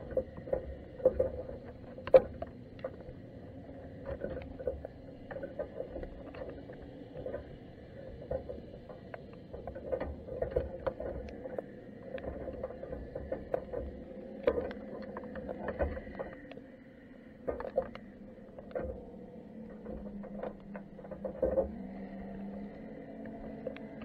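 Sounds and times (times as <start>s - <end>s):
irregular clicks and ticks: 0.0s - 24.0s
muffled underwater rumble: 0.0s - 24.0s.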